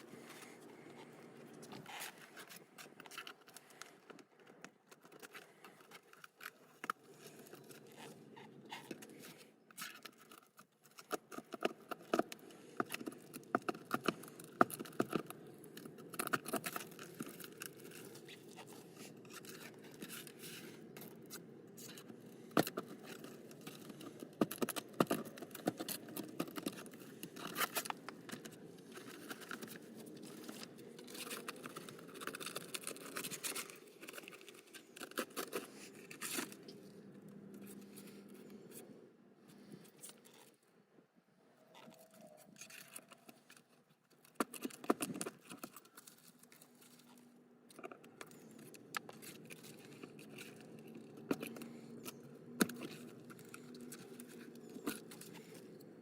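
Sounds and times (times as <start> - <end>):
objects handled clicking and scraping: 0.0 - 40.8, 41.5 - 56.0.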